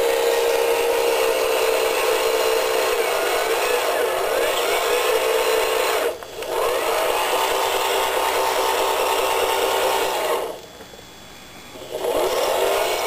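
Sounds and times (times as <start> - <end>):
electric motor whining: 0.0 - 10.8, 11.7 - 13.0.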